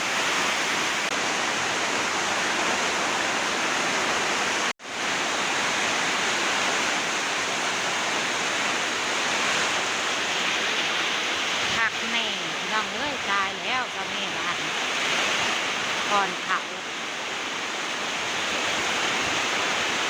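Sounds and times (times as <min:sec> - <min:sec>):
heavy rain: 0:00.0 - 0:20.0
running water: 0:00.0 - 0:20.0
wind: 0:00.0 - 0:20.0.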